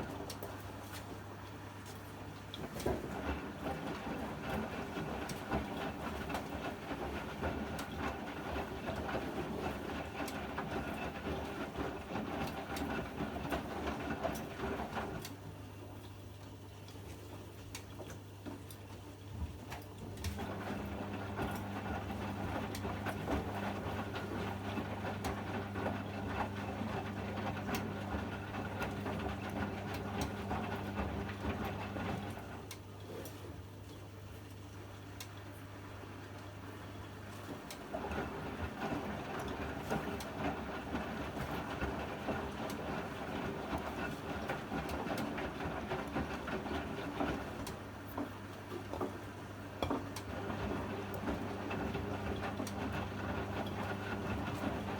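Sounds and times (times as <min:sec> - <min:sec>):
washing machine low hum: 0:00.0 - 0:54.9.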